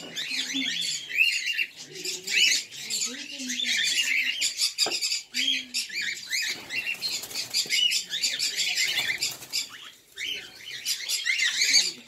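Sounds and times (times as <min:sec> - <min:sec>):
caged birds chirping and twittering: 0:00.0 - 0:12.0.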